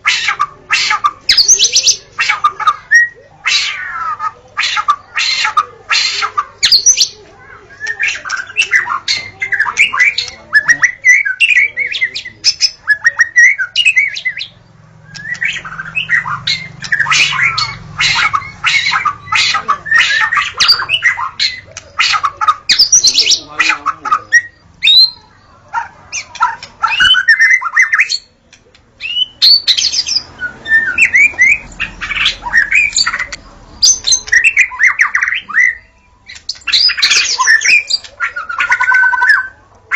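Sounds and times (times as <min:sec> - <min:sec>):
songbird whistling and chirping: 0:00.1 - 0:25.3, 0:26.1 - 0:28.4, 0:29.0 - 0:39.6.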